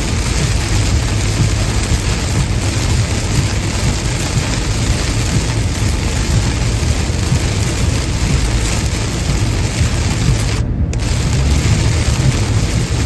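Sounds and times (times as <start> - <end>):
rain and spray hiss: 0.0 - 13.0
tyre rumble on wet road: 0.0 - 13.0.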